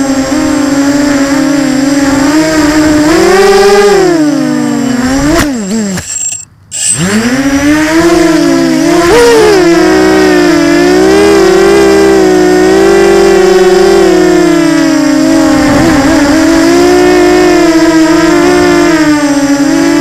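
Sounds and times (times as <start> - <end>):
drone motors and propellers whining: 0.0 - 20.0.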